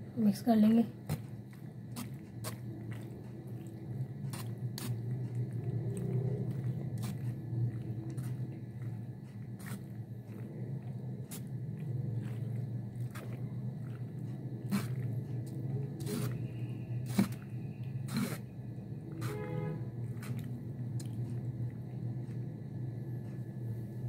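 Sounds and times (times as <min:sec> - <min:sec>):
pasta squelching: 0:00.9 - 0:22.5.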